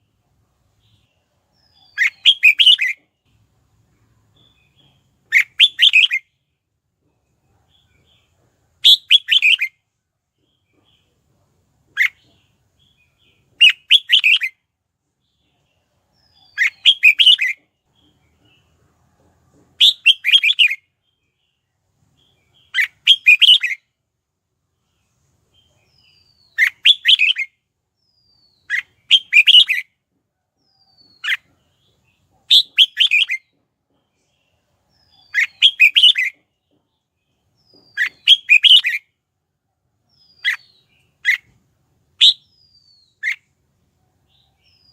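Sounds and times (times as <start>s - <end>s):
bird chirping song: 0.0s - 44.9s.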